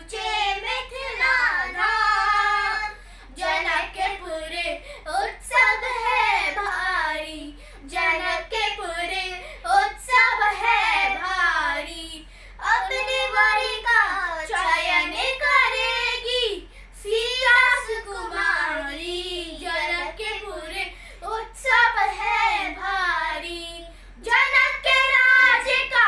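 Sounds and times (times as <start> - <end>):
children singing unaccompanied: 0.0 - 12.0, 12.6 - 26.0.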